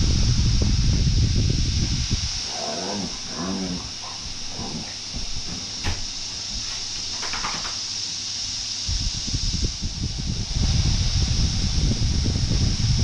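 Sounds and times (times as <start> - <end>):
cicadas hissing: 0.0 - 13.0.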